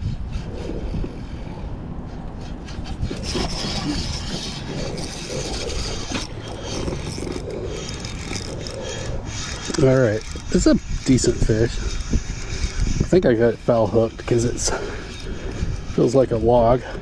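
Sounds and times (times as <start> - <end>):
fishing reel grinding: 2.4 - 17.0.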